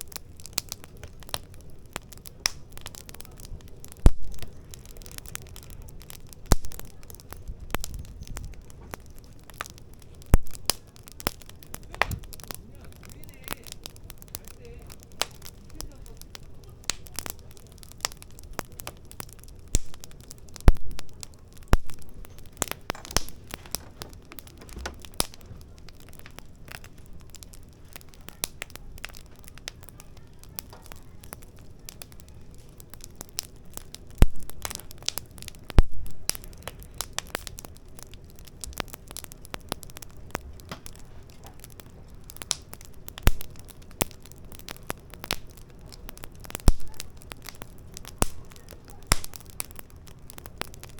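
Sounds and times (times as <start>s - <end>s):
firewood crackling and popping: 0.0s - 50.9s.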